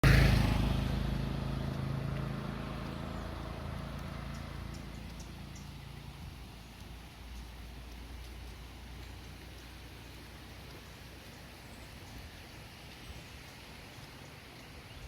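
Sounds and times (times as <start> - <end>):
vehicle engine driving away: 0.0 - 15.0.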